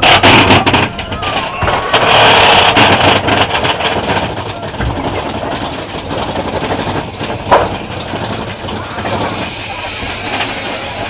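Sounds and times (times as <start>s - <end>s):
roller coaster running on track: 0.0s - 11.0s.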